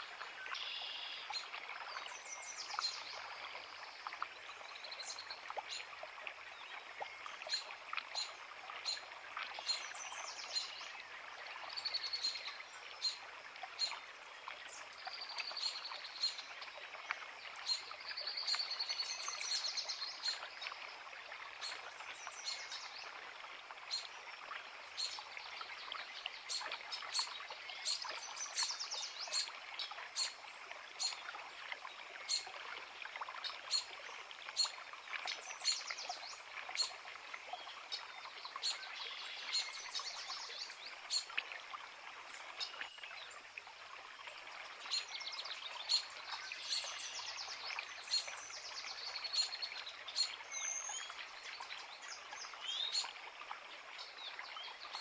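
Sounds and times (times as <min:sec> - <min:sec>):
creek running: 0:00.0 - 0:55.0.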